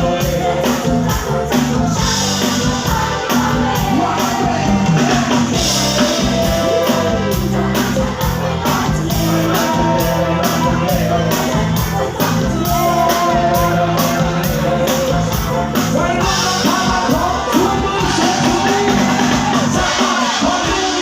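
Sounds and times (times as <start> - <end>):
live band playing dance music: 0.0 - 21.0
percussion beat: 0.0 - 21.0
person singing: 0.0 - 21.0.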